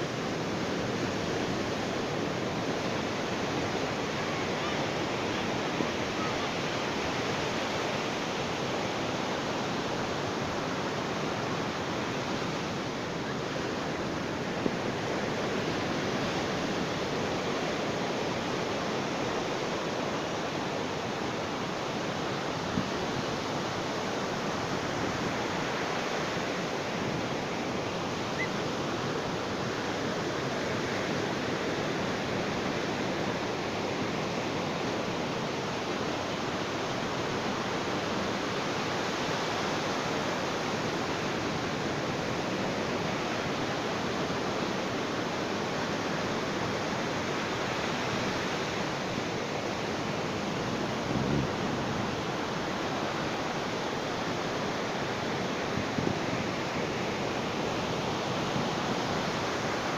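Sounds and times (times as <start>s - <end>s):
ocean waves washing on beach: 0.0s - 59.9s.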